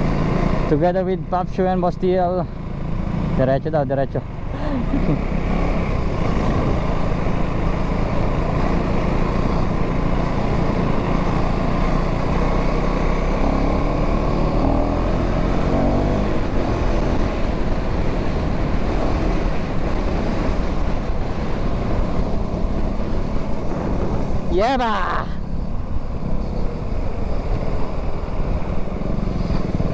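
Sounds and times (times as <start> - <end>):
motorcycle engine running: 0.0 - 29.9
wind rushing over microphone: 4.9 - 29.9.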